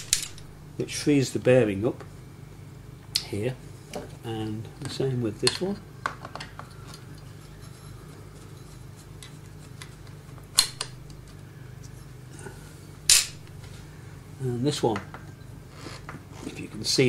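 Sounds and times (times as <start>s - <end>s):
low hum: 0.0s - 15.7s.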